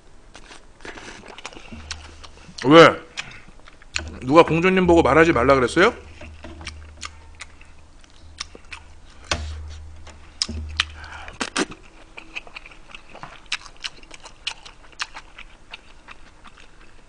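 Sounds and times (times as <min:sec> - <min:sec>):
wet chewing and lip smacks: 0:00.4 - 0:04.2, 0:06.1 - 0:09.3, 0:10.4 - 0:17.0.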